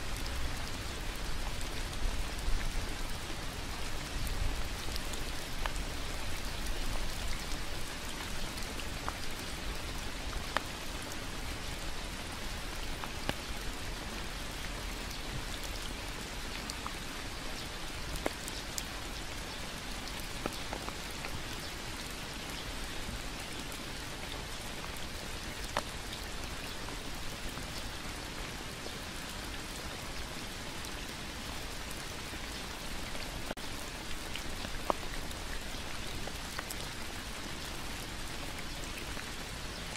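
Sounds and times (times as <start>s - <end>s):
rain falling on leaves: 0.0s - 39.9s
water drips: 0.1s - 39.9s.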